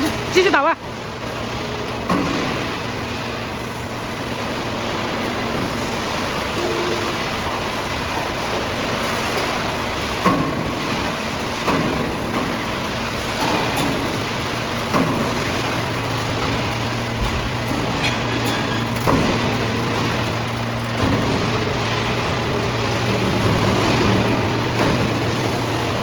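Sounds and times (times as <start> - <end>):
can baler running: 0.0 - 26.0.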